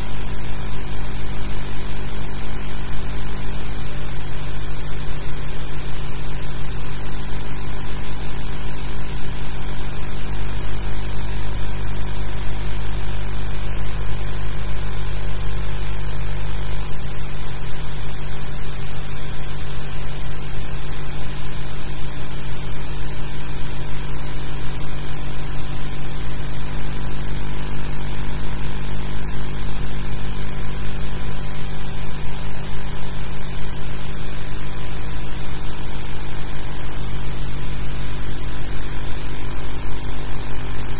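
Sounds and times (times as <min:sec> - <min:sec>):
low electrical hum: 0:00.0 - 0:40.9
steady hiss: 0:00.0 - 0:40.9.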